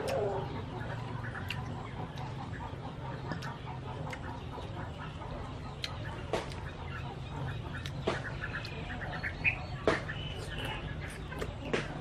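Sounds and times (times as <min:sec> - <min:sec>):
chickens clucking: 0:00.0 - 0:12.0
steady low hum: 0:00.0 - 0:12.0.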